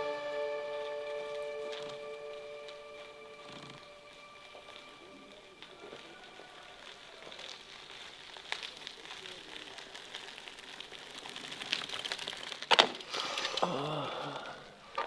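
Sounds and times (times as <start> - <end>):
bicycle rolling on dirt road: 0.0 - 15.0.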